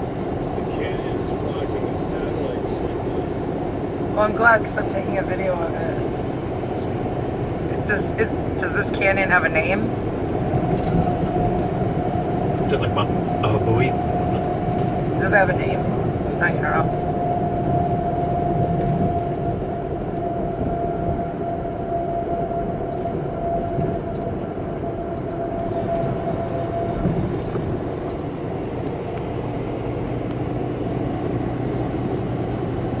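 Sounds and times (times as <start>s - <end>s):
faint steady whine: 0.0s - 33.0s
tyres and engine drone: 0.0s - 33.0s.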